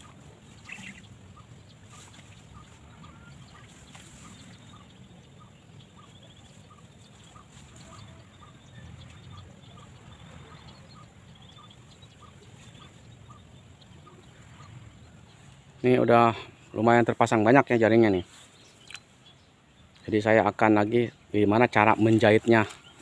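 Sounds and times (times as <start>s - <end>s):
bird calls: 0.0s - 23.0s.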